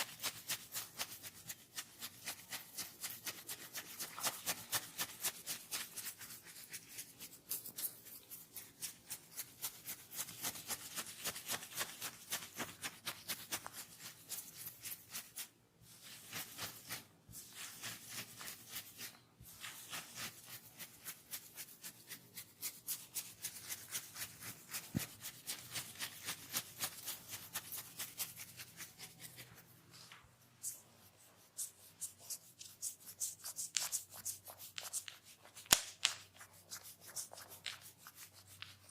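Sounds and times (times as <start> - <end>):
hands rubbing hair: 0.0 - 38.9.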